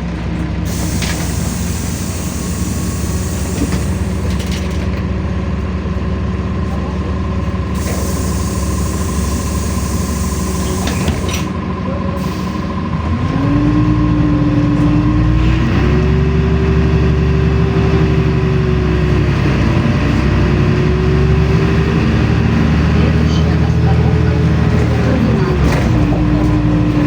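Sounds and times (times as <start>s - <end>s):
bus engine: 0.0s - 27.0s.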